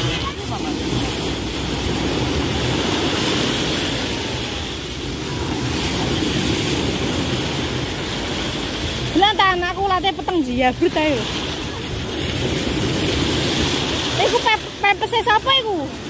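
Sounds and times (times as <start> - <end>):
sea surf washing in: 0.0 - 16.0.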